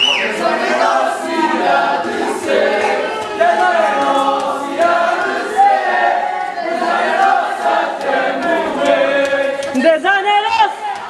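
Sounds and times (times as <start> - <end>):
crowd chanting and singing: 0.0 - 11.0.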